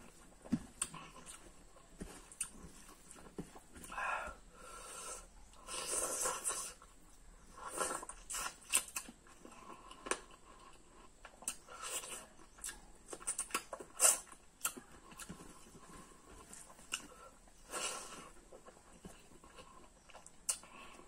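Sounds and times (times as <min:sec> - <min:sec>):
wet chewing and lip smacks: 0:00.4 - 0:03.9, 0:05.5 - 0:21.0.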